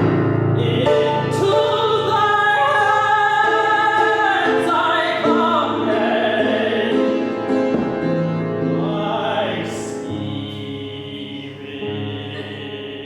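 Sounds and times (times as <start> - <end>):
piano accompaniment: 0.0 - 13.0
operatic singing: 0.6 - 13.0.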